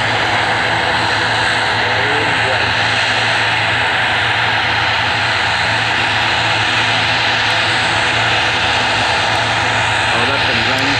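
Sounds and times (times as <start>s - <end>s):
jet engines roaring: 0.0s - 10.9s.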